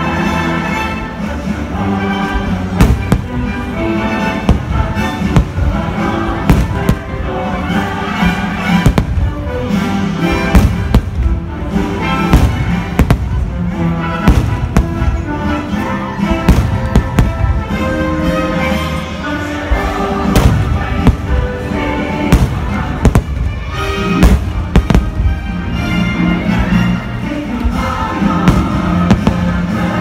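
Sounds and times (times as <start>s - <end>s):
loud show music: 0.0s - 30.0s
fireworks bursting with bangs: 2.3s - 18.2s, 19.7s - 25.8s, 27.7s - 30.0s.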